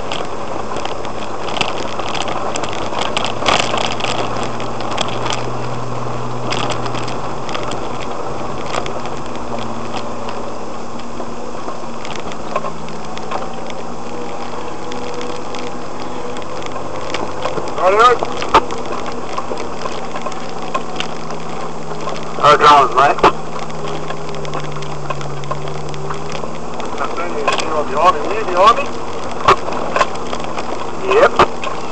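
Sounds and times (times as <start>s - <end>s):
vehicle engine running: 0.0s - 31.9s.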